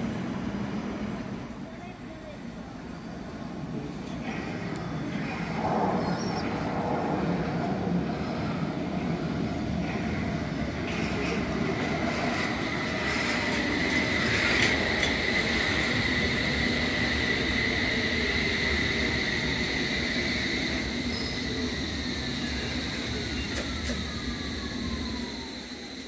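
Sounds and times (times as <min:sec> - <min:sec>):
train high-pitched whine: 0:00.0 - 0:26.0
train rumbling on rails: 0:00.0 - 0:26.0.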